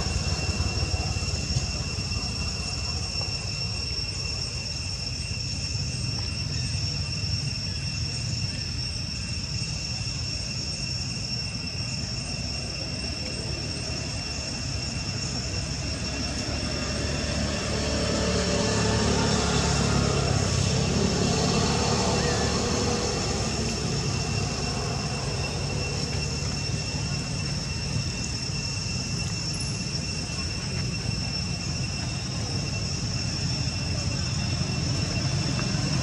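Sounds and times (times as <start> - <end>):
high-pitched whine: 0.0 - 36.0.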